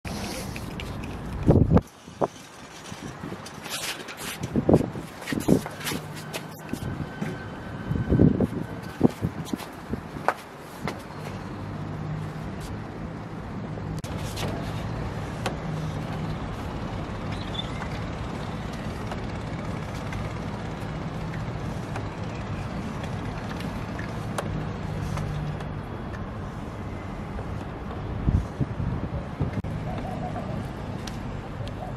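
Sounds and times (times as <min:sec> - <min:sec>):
low mechanical hum: 0:00.1 - 0:31.8.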